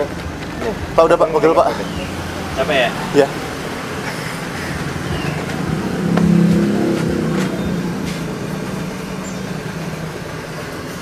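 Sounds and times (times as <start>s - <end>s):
traffic noise: 0.0s - 11.0s
vehicle engine passing by: 0.0s - 11.0s.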